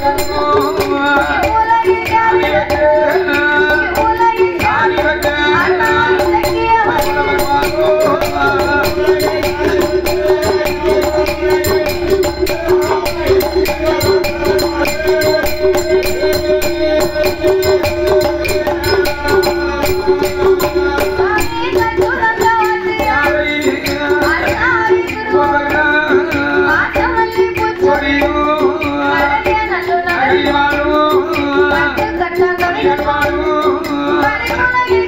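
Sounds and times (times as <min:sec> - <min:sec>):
jingling and clicking percussion: 0:00.0 - 0:35.0
person singing: 0:00.0 - 0:35.0.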